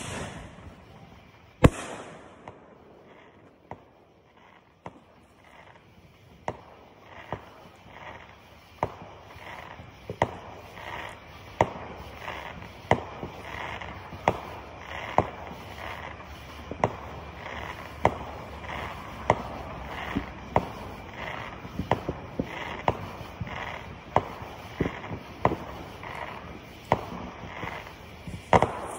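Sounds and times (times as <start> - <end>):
background haze: 0.0 - 28.9
fireworks popping: 0.0 - 28.9.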